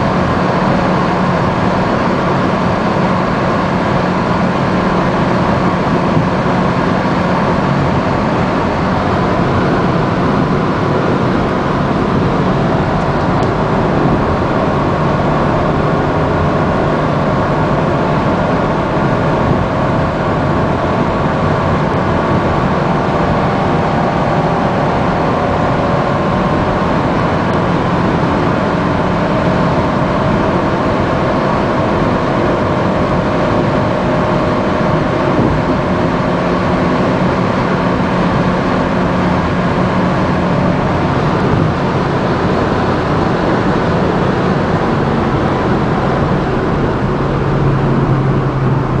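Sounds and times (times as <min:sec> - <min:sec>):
car engine droning: 0:00.0 - 0:49.0
low hum: 0:00.0 - 0:49.0
tyre and wind noise: 0:00.0 - 0:49.0.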